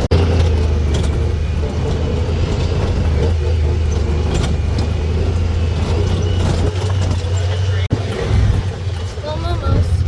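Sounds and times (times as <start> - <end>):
engine low hum: 0.0 - 10.0.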